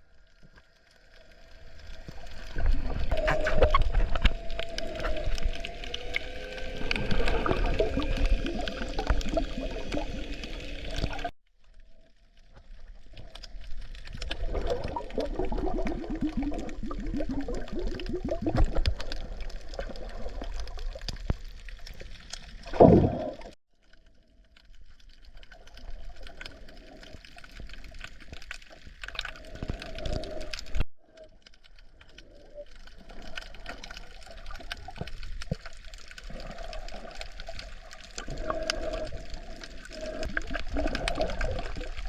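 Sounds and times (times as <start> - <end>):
water sloshing and gurgling: 0.0 - 42.0
fast bubbling ticks: 1.3 - 11.3, 12.4 - 23.6, 24.8 - 42.0.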